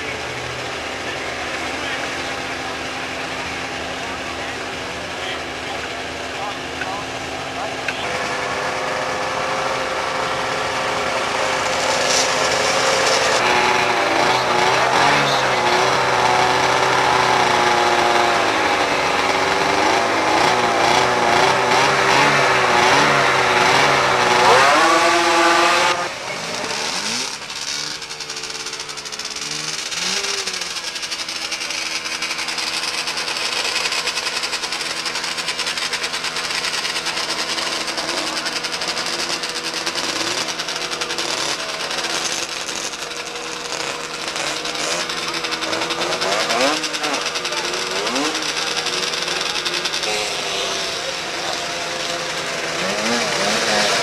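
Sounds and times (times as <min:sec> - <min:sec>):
engine running steadily: 0:00.0 - 0:54.0
snowmobile engines revving: 0:00.0 - 0:54.0.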